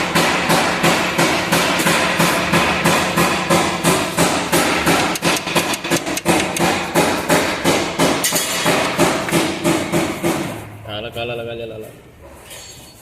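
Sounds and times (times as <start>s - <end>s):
rapid hammer blows: 0.0s - 10.6s.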